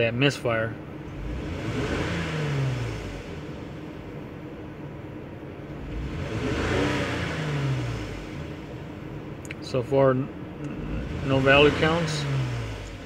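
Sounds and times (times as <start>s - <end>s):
misfiring car engine revving: 0.9s - 4.4s, 5.6s - 13.0s.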